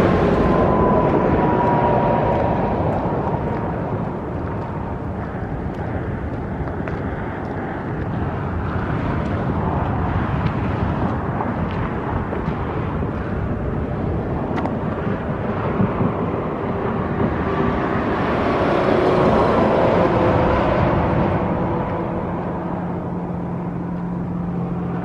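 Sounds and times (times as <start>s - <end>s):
car driving on highway: 0.0s - 25.0s
faint whine: 0.0s - 25.0s.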